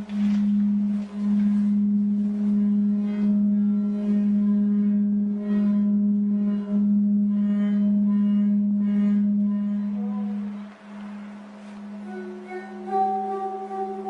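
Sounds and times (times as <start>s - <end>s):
steady low-pitched tone: 0.0s - 14.0s.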